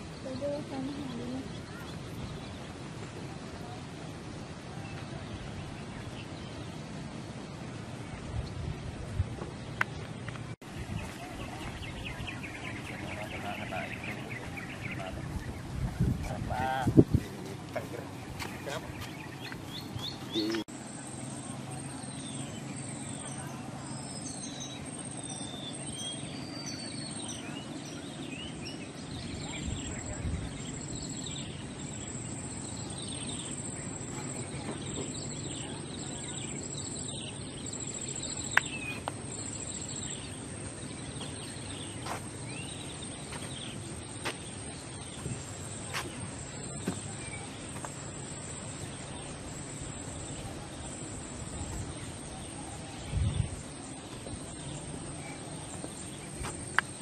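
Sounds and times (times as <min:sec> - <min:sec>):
small birds chirping: 0:00.0 - 0:03.8, 0:09.4 - 0:57.0.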